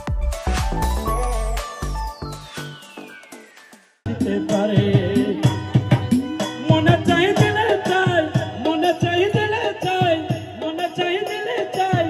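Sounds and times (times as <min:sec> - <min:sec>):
jingling percussion: 0:00.0 - 0:12.0
lively music with drum beat: 0:00.0 - 0:12.0.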